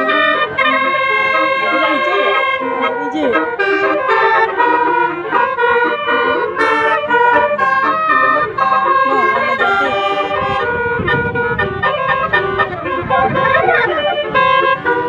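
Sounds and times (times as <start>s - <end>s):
musical horn playing a tune: 0.0s - 15.0s.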